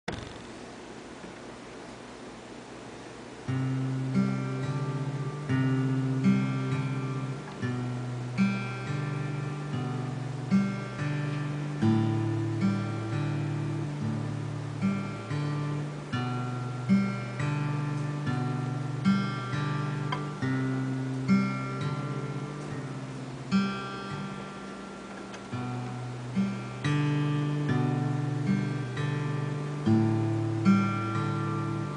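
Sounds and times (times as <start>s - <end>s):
acoustic guitar fingerpicked: 2.8s - 31.9s.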